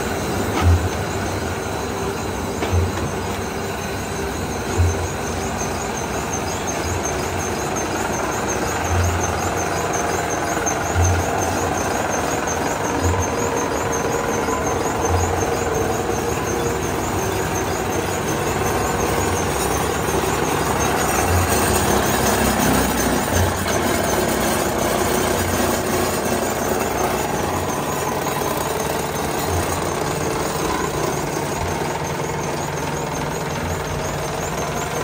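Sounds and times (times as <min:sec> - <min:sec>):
laminating machine running: 0:00.0 - 0:35.0.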